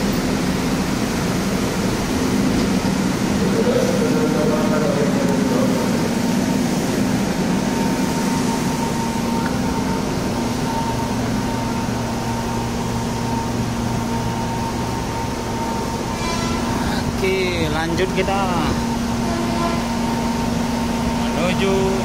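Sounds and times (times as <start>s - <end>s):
electric train interior hum: 0.0s - 22.0s.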